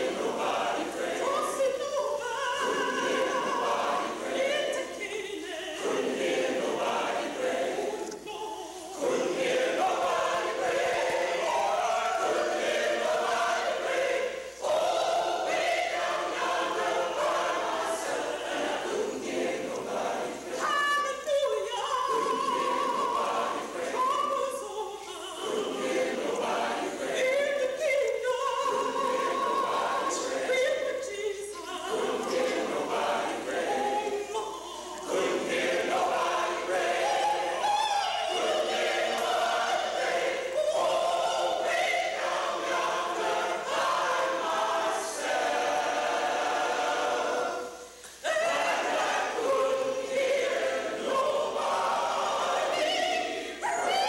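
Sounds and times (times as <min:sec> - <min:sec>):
choir singing held chords: 0:00.0 - 0:54.0.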